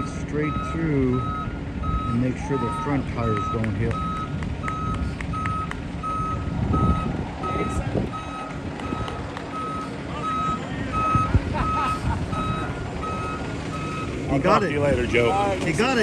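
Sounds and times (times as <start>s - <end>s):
truck backup alarm beeping: 0.0s - 16.0s
truck engine rumble: 0.0s - 16.0s.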